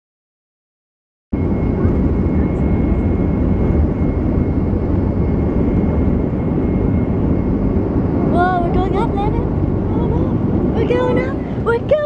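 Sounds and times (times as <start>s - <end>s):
jet engine high whine: 1.4s - 12.0s
jet engine low rumble: 1.4s - 12.0s.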